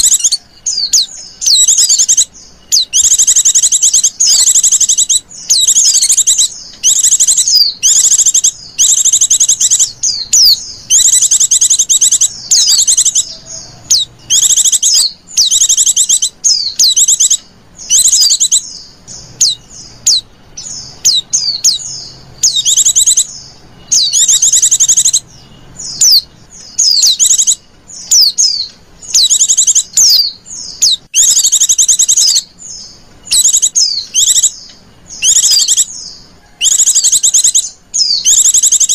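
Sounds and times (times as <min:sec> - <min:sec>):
bird chirping trills: 0:00.0 - 0:38.9.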